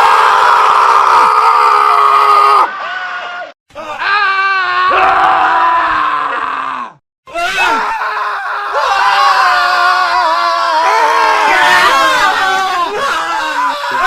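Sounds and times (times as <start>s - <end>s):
men screaming: 0.0s - 14.0s.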